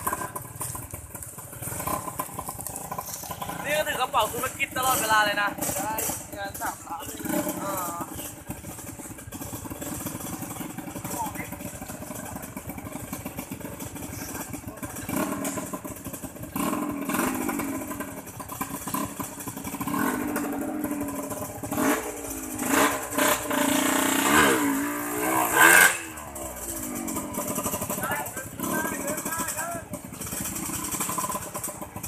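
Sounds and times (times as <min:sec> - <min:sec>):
engine running and revving: 0:00.0 - 0:32.0.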